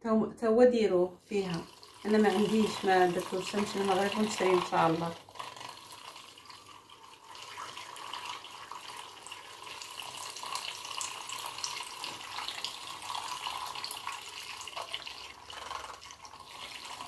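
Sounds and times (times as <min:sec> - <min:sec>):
liquid swishing in cup: 0:01.2 - 0:17.0.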